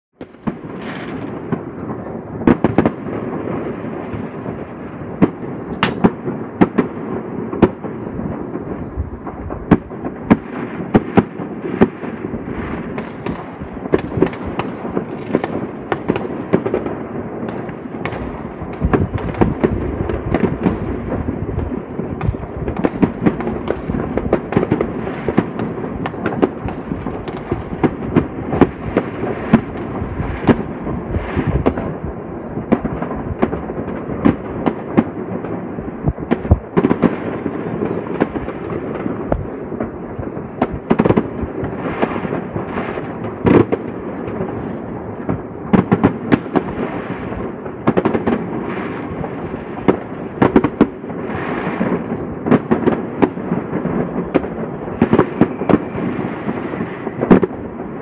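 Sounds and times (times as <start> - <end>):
fireworks bangs and pops: 0.2 - 58.0.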